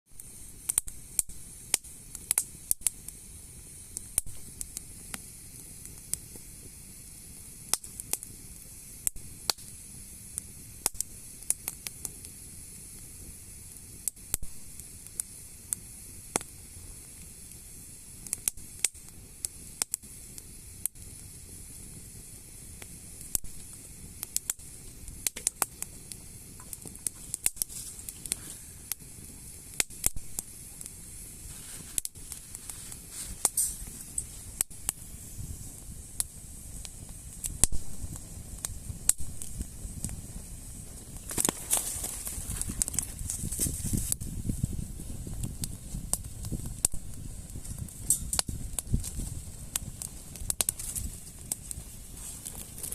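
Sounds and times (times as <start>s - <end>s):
wood fire crackling and popping: 0.1s - 52.9s.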